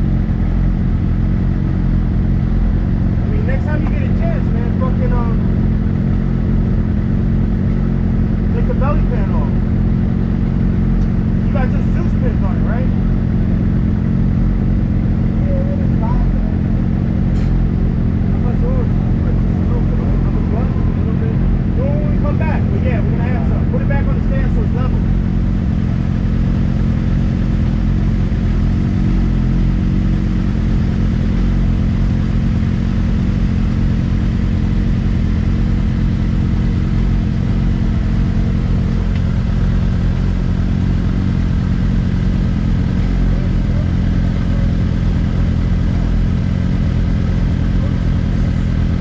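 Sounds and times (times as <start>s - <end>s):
vehicle engine running steadily: 0.0s - 49.0s.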